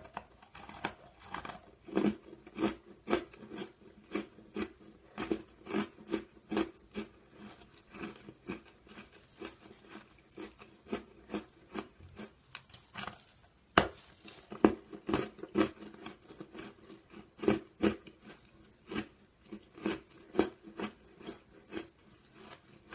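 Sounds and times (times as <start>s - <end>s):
chewing and crunching: 0.0s - 22.9s.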